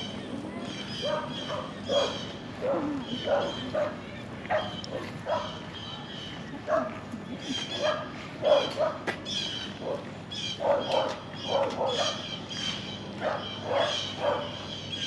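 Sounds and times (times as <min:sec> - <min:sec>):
small dogs barking and yipping: 0:00.0 - 0:15.0.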